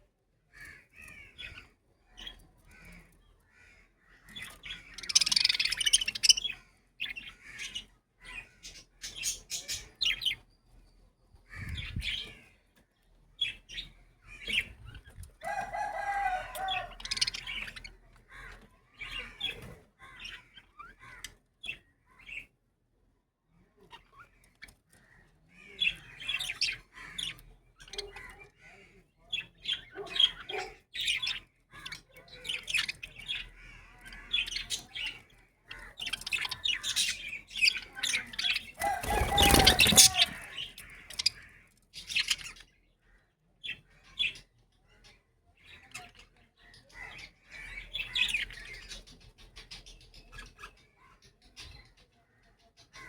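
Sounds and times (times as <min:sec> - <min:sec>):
budgerigars chirping and chattering: 0:00.6 - 0:22.6, 0:23.7 - 0:53.0.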